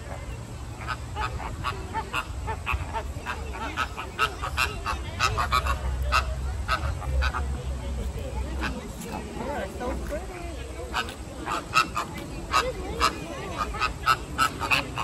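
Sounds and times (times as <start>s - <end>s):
flamingos honking: 0.0s - 15.0s.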